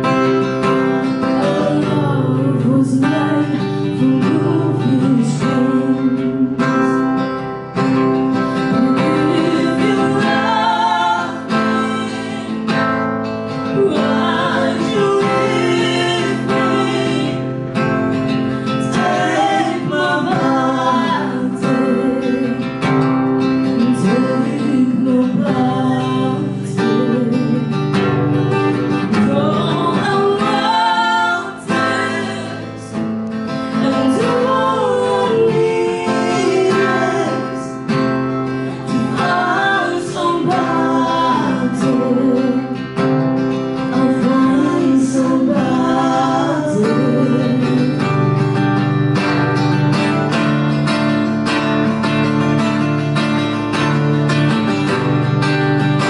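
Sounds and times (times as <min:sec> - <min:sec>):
acoustic guitar strumming: 0:00.0 - 0:56.0
man and woman singing: 0:01.0 - 0:48.6.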